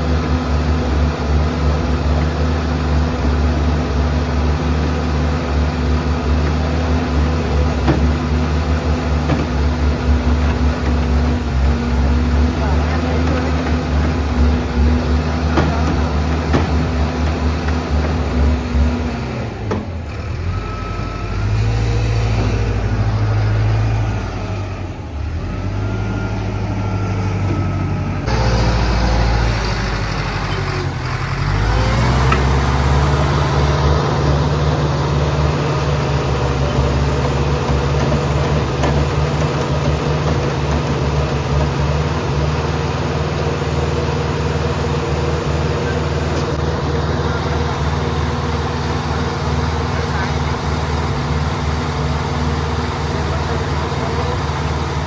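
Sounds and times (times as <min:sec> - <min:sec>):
concrete mixer engine running: 0:00.0 - 0:55.0.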